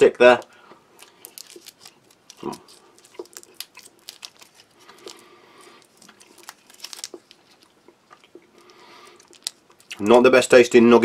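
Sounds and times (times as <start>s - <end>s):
plastic wrapper crinkling: 0.0s - 10.3s.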